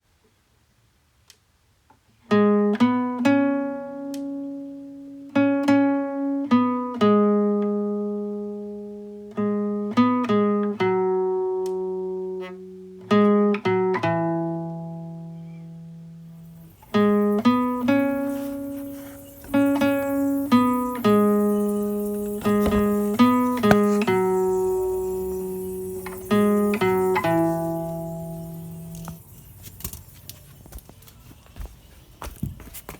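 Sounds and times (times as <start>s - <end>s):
plucked guitar melody: 2.3s - 30.7s
faint hiss: 3.1s - 32.9s.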